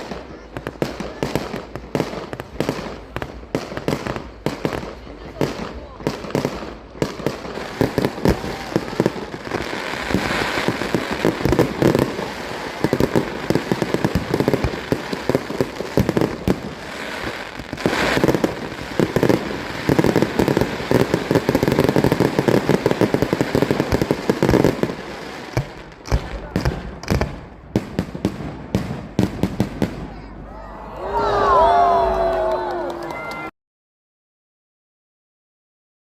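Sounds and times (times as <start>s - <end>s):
fireworks popping and crackling: 0.0s - 30.3s.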